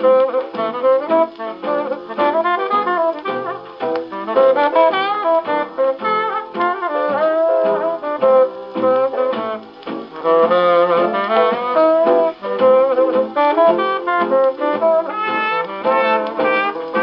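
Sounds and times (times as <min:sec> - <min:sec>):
horns playing jazz melody: 0:00.0 - 0:17.0
swing band on gramophone record: 0:00.0 - 0:17.0.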